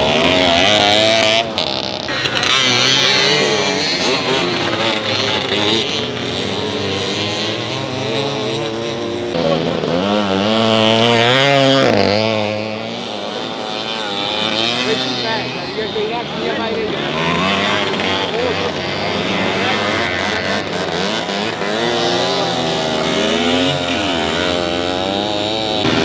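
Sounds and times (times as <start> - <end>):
two-stroke motorcycle engines revving: 0.0 - 26.0.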